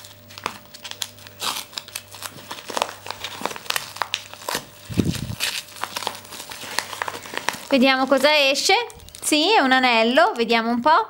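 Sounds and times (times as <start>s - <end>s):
paper envelope tearing and crinkling: 0.0s - 9.3s.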